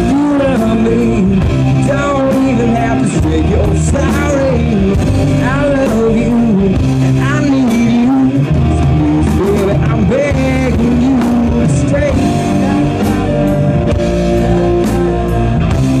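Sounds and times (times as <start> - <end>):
drums: 0.0 - 16.0
electric guitars: 0.0 - 16.0
rock band playing: 0.0 - 16.0.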